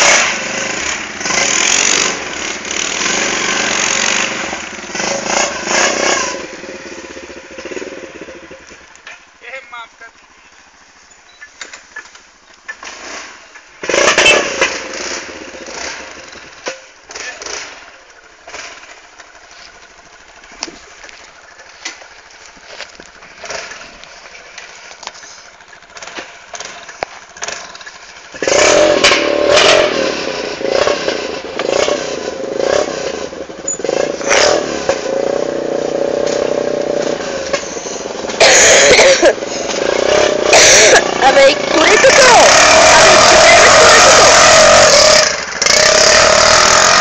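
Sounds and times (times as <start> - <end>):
quad bike engine revving: 0.0 - 8.9, 12.8 - 47.0.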